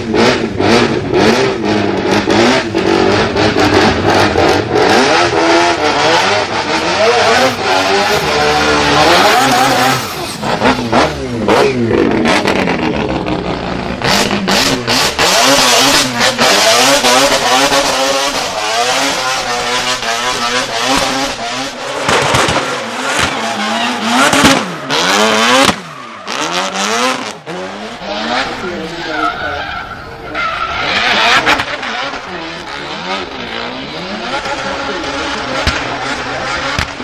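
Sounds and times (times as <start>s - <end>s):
car engine revving hard: 0.0s - 37.0s.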